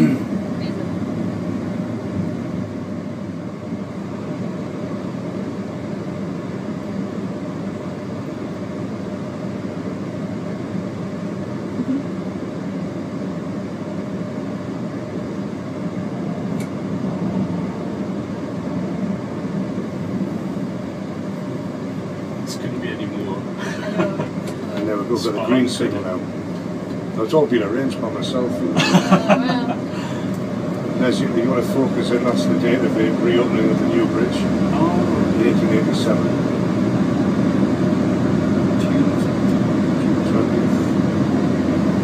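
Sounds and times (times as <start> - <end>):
diesel train rumble in cab: 0.0 - 42.0.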